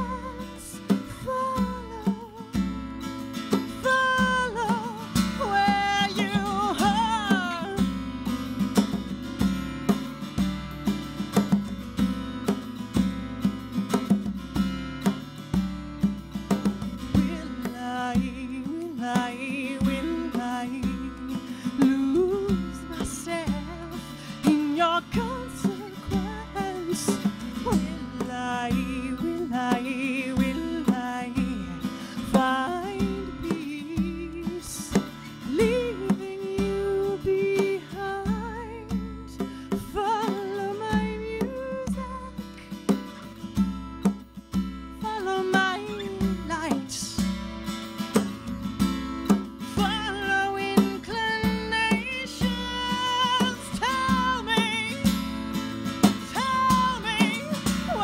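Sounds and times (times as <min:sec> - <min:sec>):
woman singing: 0:00.0 - 0:10.0, 0:16.7 - 0:43.8, 0:44.9 - 0:47.6, 0:49.3 - 0:58.0
acoustic guitar: 0:00.0 - 0:58.0
djembe hand drumming: 0:03.4 - 0:21.2, 0:21.8 - 0:58.0.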